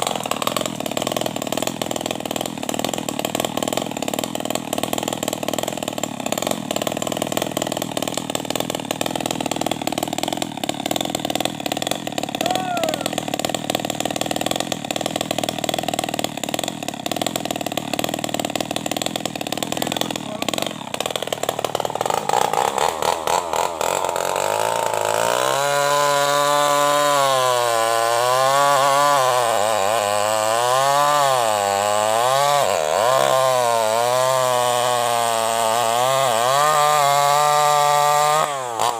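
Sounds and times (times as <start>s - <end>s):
chainsaw cutting through tree: 0.0s - 38.9s.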